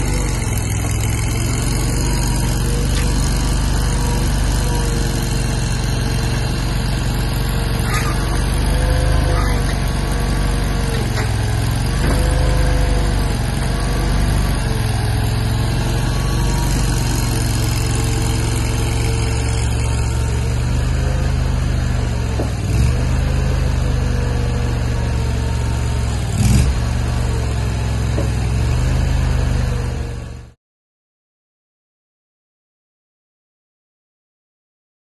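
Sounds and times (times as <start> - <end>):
loader engine running: 0.0 - 30.6.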